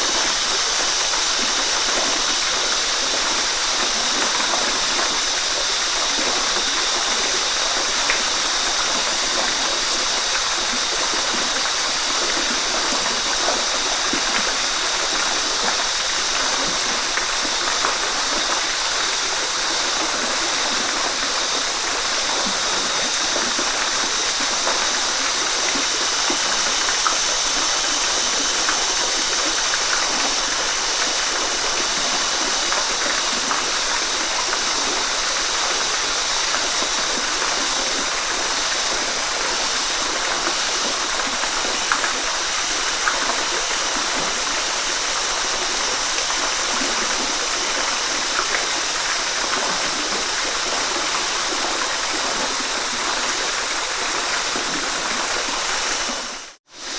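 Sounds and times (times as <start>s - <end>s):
water splashes: 0.0s - 56.9s
waterfall rushing: 0.0s - 56.9s.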